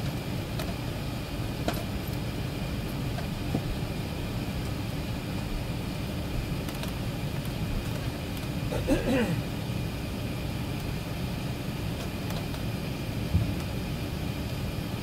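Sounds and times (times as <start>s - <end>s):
aircraft cabin engine noise: 0.0s - 15.0s.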